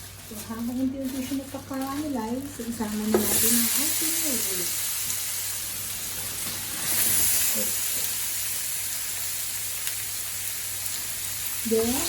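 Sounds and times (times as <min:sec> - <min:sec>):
ribs sizzling in a pan: 0:00.0 - 0:12.0.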